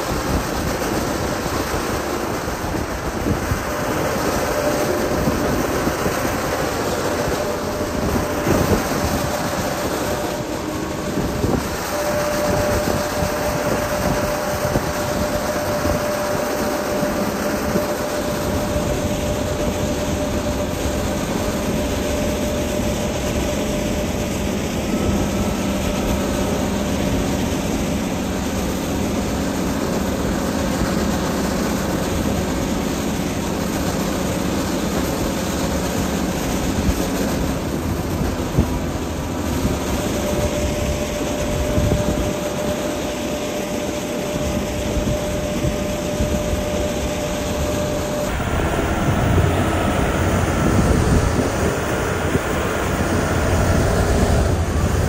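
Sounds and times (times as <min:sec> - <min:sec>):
diesel construction machinery rumbling: 0:00.0 - 0:55.0
thin steady whine: 0:00.0 - 0:55.0.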